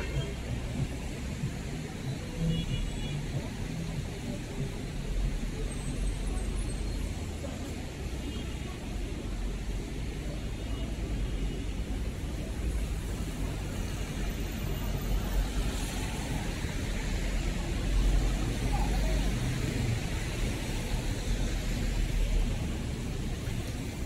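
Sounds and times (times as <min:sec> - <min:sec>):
passing traffic rumble and tyre hiss: 0:00.0 - 0:24.0.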